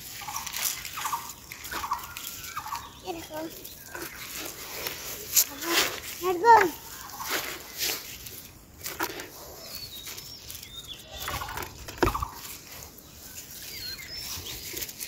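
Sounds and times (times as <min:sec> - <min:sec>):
rapid rattling bird call: 0:00.0 - 0:08.0, 0:09.4 - 0:15.0
birds chirping: 0:00.0 - 0:15.0.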